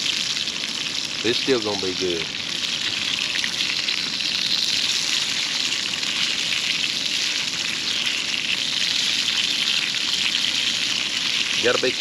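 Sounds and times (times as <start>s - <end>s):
fish sizzling in a skillet: 0.0s - 12.0s.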